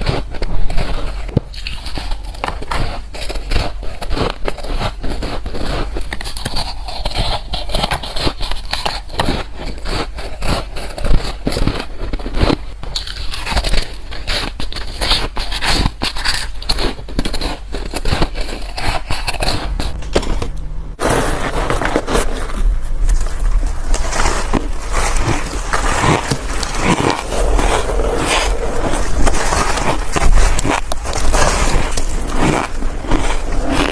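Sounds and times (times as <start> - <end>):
chewing crunchy ice: 0.0 - 20.0, 23.9 - 33.9.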